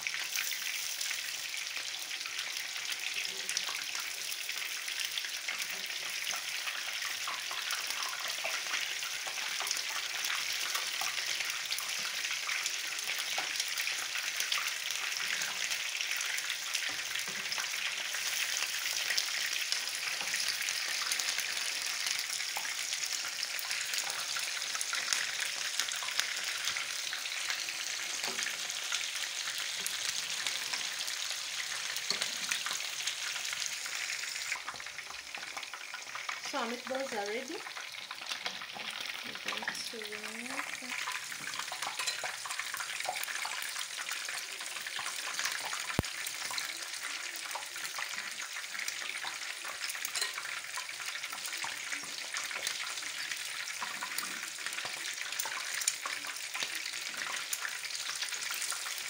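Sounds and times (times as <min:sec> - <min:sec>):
meatballs sizzling in oil: 0:00.0 - 0:59.0.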